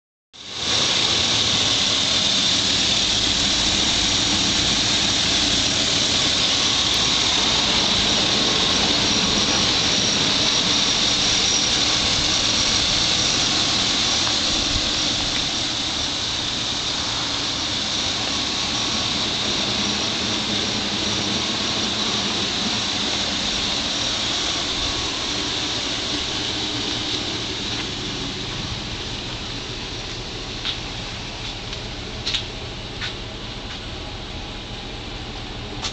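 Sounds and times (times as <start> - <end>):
car engine idling: 0.4 - 35.9
high-pitched whine: 0.4 - 35.9.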